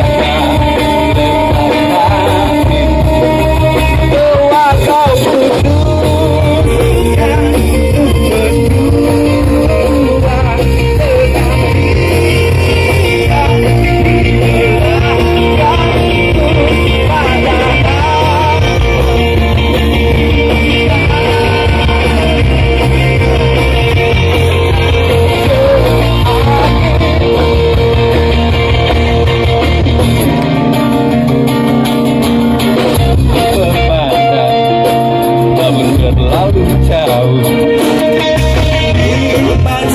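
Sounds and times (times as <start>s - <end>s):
person singing: 0.0s - 29.3s, 33.3s - 39.9s
heavy bass: 0.0s - 39.9s
live pop-rock band playing: 0.0s - 39.9s.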